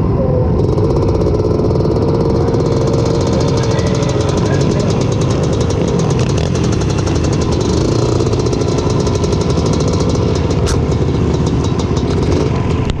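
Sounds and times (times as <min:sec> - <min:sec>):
two-stroke engine running: 0:00.5 - 0:13.0.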